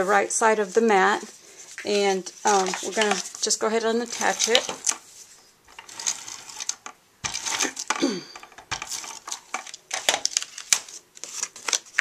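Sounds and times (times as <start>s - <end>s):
paper rustling: 0.6s - 12.0s.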